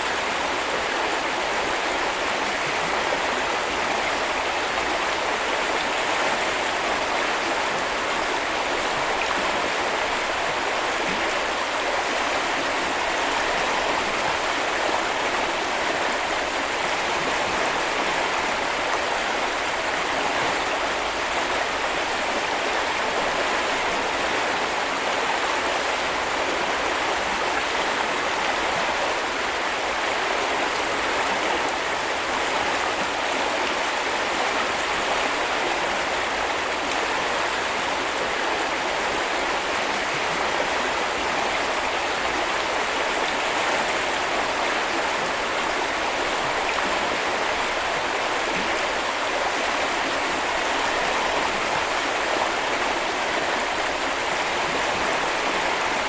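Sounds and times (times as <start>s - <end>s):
brook flowing: 0.0s - 56.0s.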